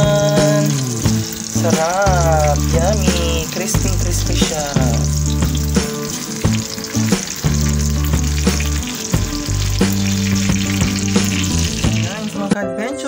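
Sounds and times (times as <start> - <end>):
background music with steady beat: 0.0 - 13.0
food sizzling in hot oil: 0.0 - 13.0.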